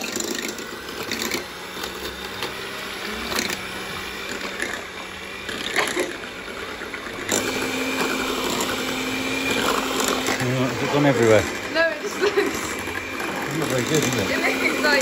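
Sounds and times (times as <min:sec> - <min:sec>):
hand mixer whisking: 0:00.0 - 0:15.0.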